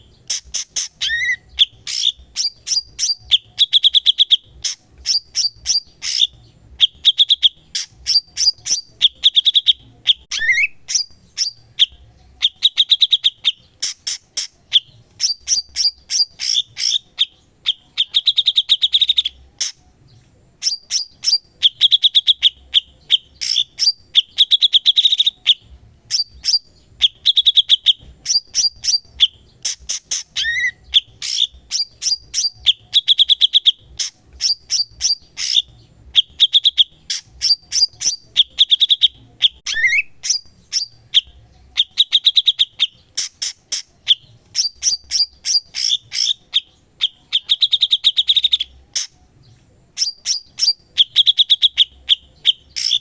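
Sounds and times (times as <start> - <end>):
bird singing trills: 0.0 - 53.0.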